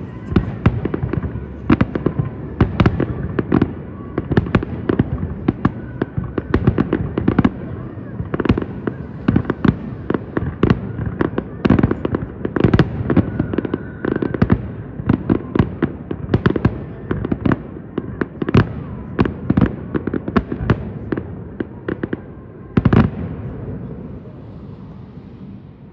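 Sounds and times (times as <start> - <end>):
fireworks bursts and bangs: 0.0 - 25.9
fireworks crackle and rumble: 0.0 - 25.9.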